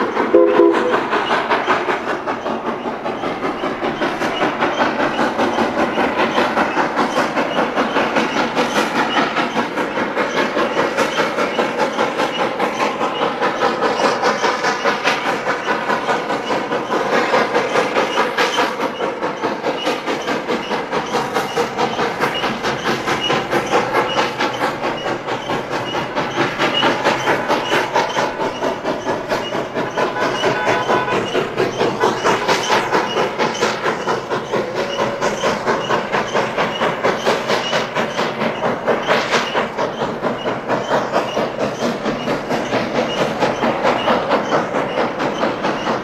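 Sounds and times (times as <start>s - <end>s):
steam locomotive chuffing: 0.0s - 46.0s.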